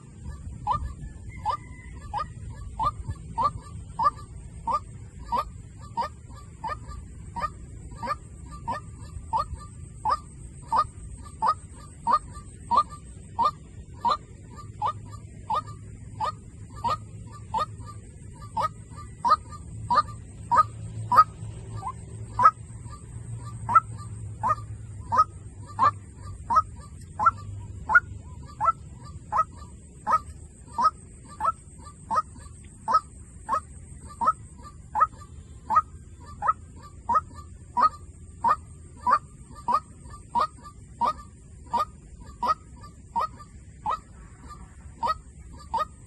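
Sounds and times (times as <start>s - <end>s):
waterhen honking call: 0.0s - 46.0s.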